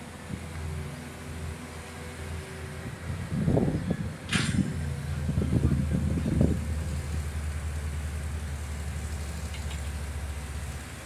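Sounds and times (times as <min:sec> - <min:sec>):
heavy machine engine idling: 0:00.1 - 0:11.0.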